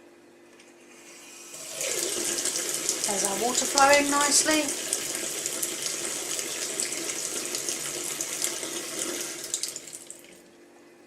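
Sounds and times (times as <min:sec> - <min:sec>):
water running from a tap: 0:01.4 - 0:10.4.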